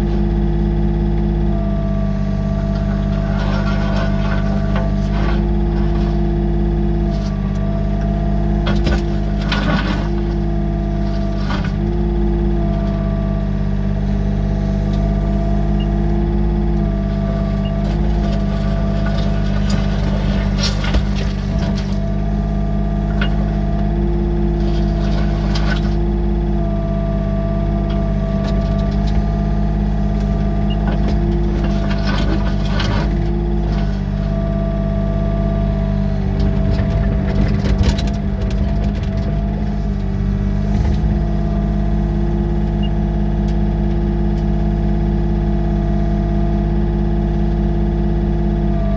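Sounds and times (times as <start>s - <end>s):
excavator diesel engine running: 0.0s - 48.9s
hydraulics whining: 0.0s - 48.9s.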